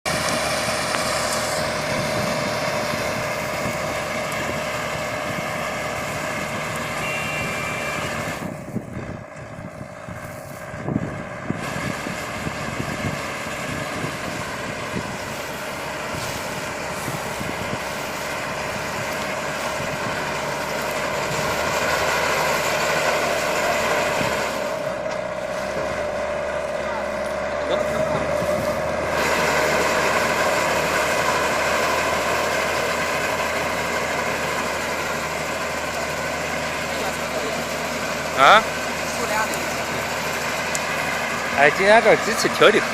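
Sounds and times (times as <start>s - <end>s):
hay baler machinery drone: 0.0s - 42.9s.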